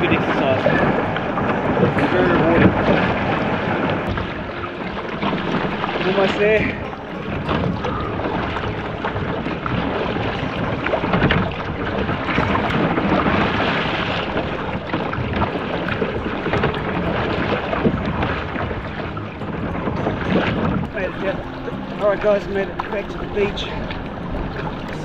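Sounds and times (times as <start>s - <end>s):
paddle strokes splashing: 0.0s - 25.0s
water rushing along hull: 0.0s - 25.0s
wind buffeting microphone: 0.0s - 25.0s.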